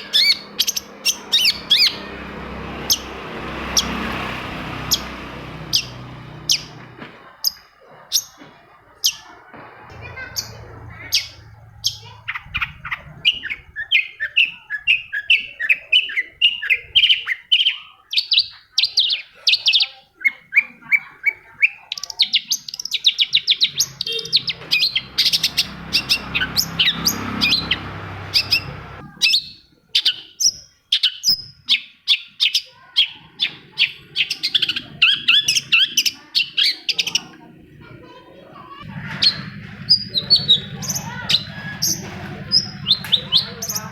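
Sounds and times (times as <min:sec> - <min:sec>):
shrike chirping and trilling: 0:00.0 - 0:06.8, 0:09.9 - 0:37.4, 0:38.0 - 0:43.9.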